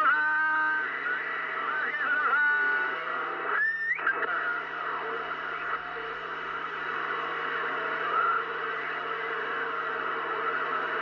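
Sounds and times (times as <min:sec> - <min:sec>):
faint wavering radio signals: 0:00.0 - 0:11.0
radio static hiss: 0:00.0 - 0:11.0.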